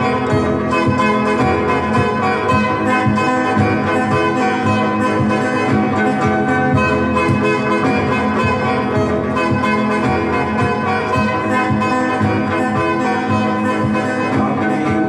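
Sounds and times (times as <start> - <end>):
looped guitar music: 0.0 - 15.0.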